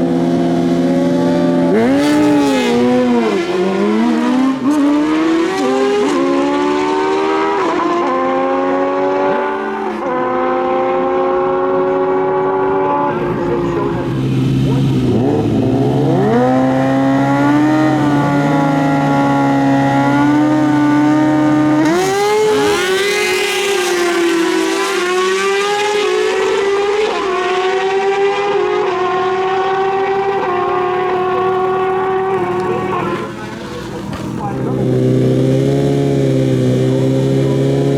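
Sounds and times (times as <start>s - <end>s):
sport bike engines at full throttle: 0.0s - 37.9s.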